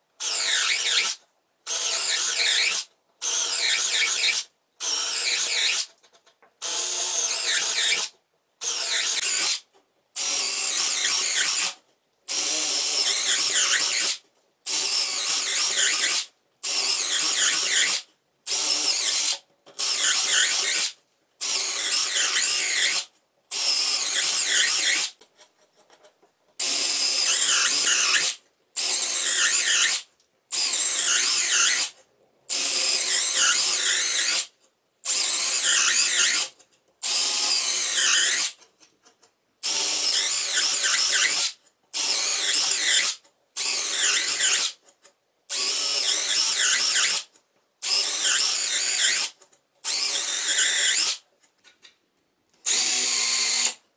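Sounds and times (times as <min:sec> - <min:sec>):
cordless drill boring into wood: 0:00.2 - 0:05.9, 0:06.6 - 0:09.6, 0:10.2 - 0:11.7, 0:12.3 - 0:23.0, 0:23.6 - 0:25.1, 0:26.6 - 0:30.0, 0:30.6 - 0:31.9, 0:32.5 - 0:34.5, 0:35.1 - 0:38.6, 0:39.7 - 0:44.8, 0:45.5 - 0:47.2, 0:47.8 - 0:49.3, 0:49.9 - 0:51.2, 0:52.7 - 0:53.8.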